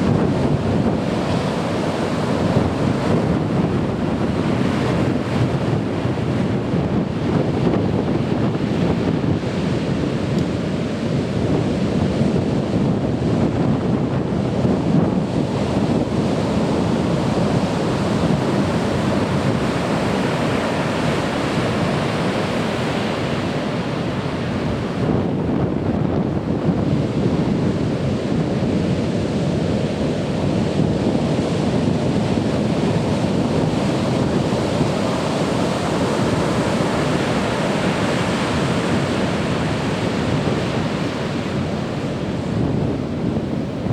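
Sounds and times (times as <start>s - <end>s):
surf breaking on beach: 0.0s - 43.9s
wind on microphone: 0.0s - 43.9s.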